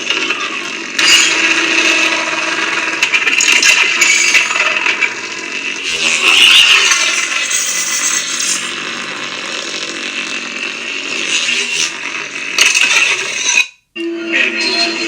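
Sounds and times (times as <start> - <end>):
lightsaber buzzing hum: 0.0 - 13.6.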